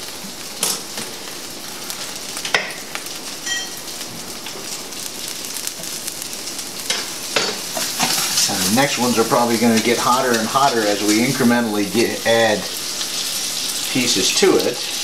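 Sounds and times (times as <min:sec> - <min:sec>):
chicken wings sizzling in a pan: 0:00.0 - 0:15.0.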